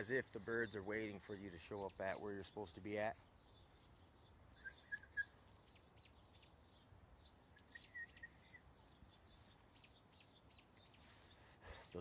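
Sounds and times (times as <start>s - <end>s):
bird twittering: 0.0s - 12.0s.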